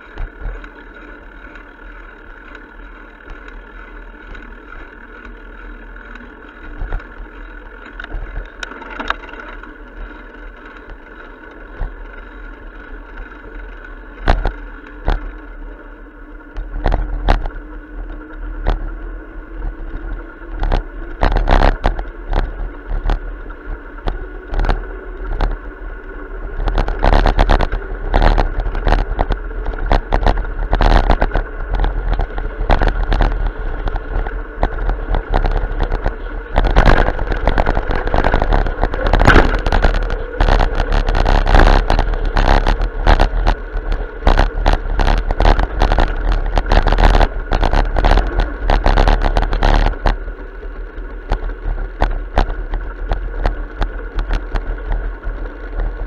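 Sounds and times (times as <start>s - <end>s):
bicycle rattling and knocking: 0.0s - 19.0s, 19.6s - 56.0s
low rumble: 0.0s - 56.0s.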